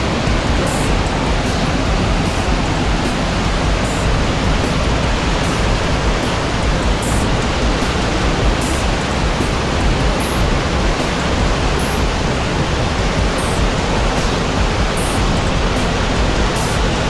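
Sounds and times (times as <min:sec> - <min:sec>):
flooded stream rushing: 0:00.0 - 0:17.0.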